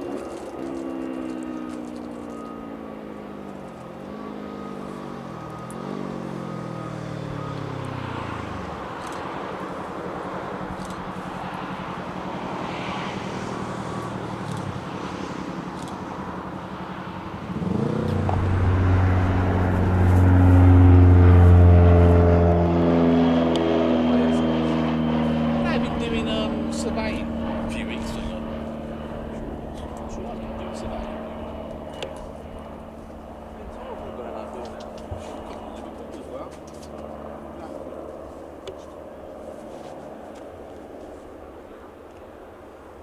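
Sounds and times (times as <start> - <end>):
close engine running: 0.0 - 42.3
aircraft engine passing: 0.0 - 43.0.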